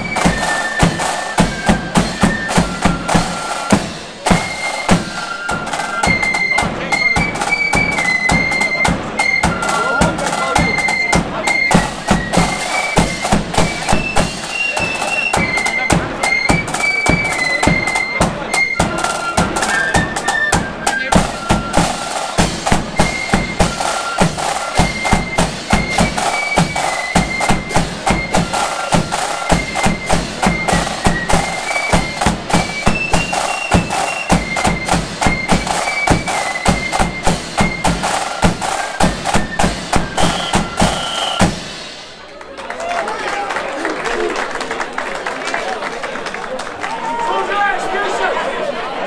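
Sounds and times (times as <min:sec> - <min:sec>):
flute band playing a march: 0:00.0 - 0:42.2
snare drumming: 0:00.0 - 0:42.3.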